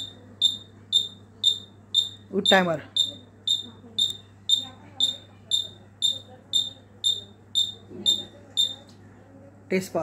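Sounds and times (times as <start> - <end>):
warning buzzer beeping: 0.0 - 8.8.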